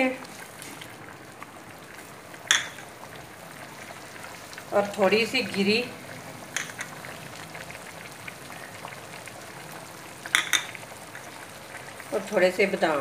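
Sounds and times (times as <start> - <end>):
water bubbling in pot: 0.0 - 13.0.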